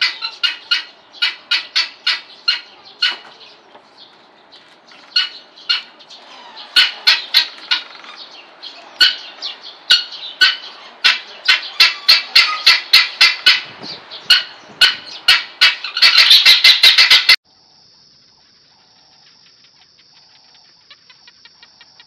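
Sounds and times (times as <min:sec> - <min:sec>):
guineafowl squawking calls: 0:00.0 - 0:17.4, 0:18.3 - 0:22.0.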